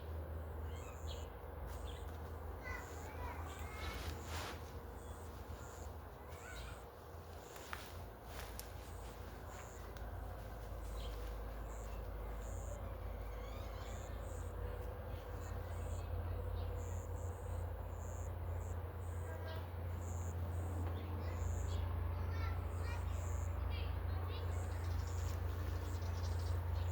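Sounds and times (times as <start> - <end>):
insects chirping: 0.0 - 21.9, 22.6 - 23.7, 24.4 - 26.9.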